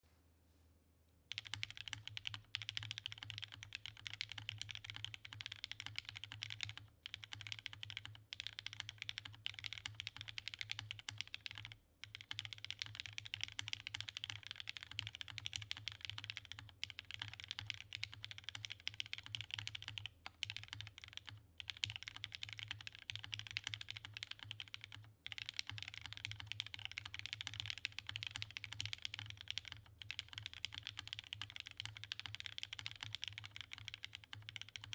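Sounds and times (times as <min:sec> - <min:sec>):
fast mechanical keyboard typing: 0:01.3 - 0:34.9.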